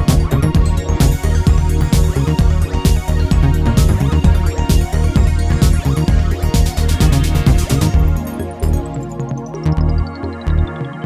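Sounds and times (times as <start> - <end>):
electronic synth music: 0.0 - 11.0.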